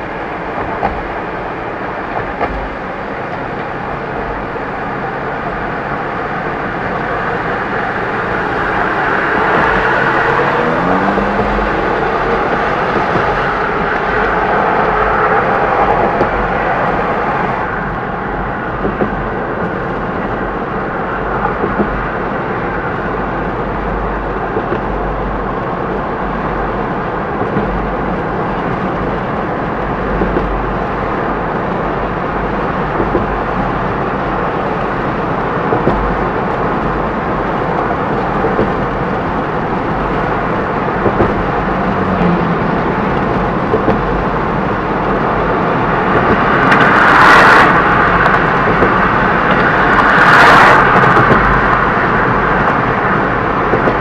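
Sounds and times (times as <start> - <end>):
car tyre and road noise: 0.0 - 54.0
low rumble: 0.0 - 54.0.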